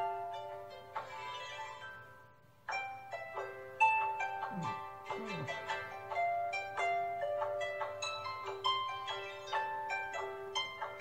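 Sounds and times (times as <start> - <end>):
plucked string music: 0.0 - 11.0.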